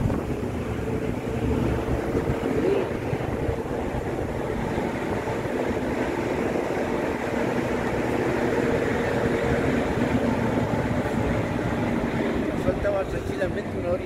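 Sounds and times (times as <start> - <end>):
vehicle rumble from inside: 0.0 - 14.0.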